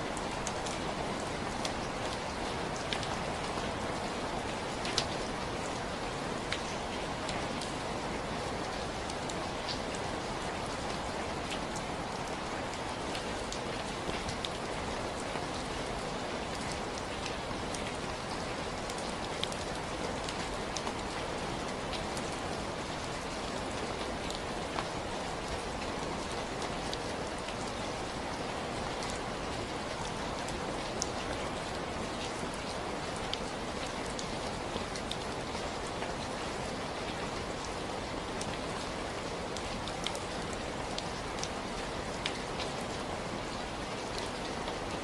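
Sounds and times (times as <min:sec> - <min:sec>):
steady rainfall: 0:00.0 - 0:45.0.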